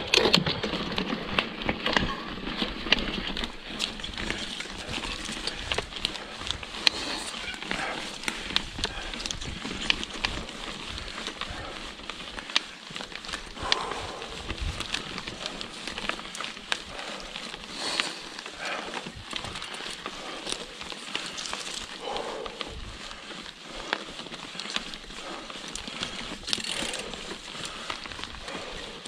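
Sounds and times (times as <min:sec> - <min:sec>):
bike rattling over bumps: 0:00.0 - 0:29.0
tyres crunching over dirt: 0:00.0 - 0:29.0.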